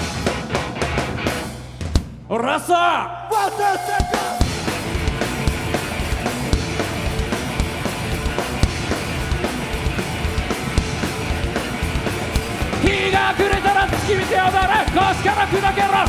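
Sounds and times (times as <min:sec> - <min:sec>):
drum kit hits: 0:00.0 - 0:02.3, 0:03.4 - 0:16.0
electric guitars and bass: 0:00.0 - 0:02.3, 0:03.8 - 0:16.0.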